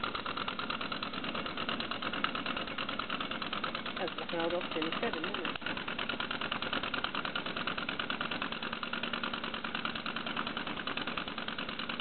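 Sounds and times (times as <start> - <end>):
model steam locomotive running fast: 0.0 - 12.0.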